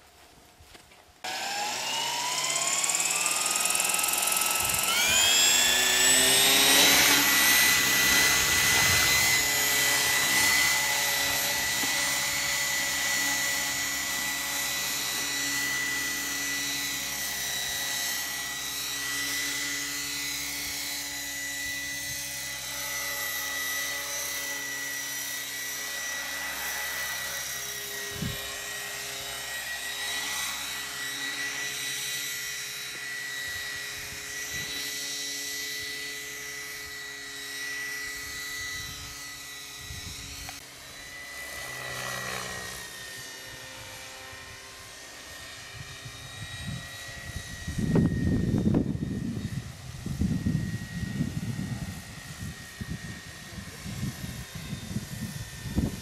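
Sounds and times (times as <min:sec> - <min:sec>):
model helicopter whine: 0:01.0 - 0:56.0.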